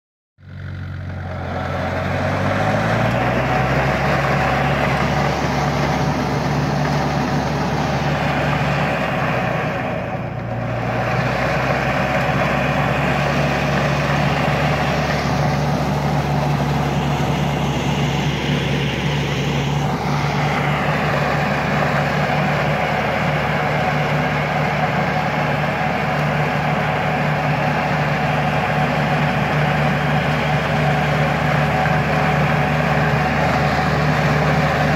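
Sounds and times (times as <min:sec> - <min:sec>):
manure spreader engine running: 0:00.4 - 0:34.9.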